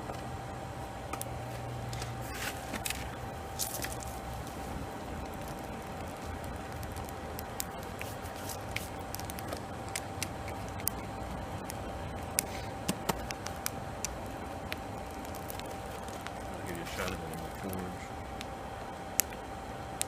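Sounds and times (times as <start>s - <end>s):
forge rumbling hum: 0.0s - 20.0s
sharp crackles and pops: 0.0s - 20.0s.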